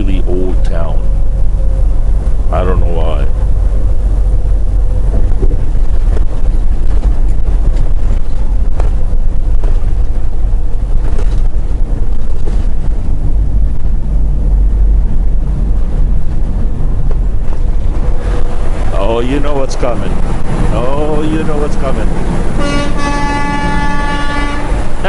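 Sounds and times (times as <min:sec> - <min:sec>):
road noise: 0:00.0 - 0:25.0
truck engine rumble: 0:00.0 - 0:25.0.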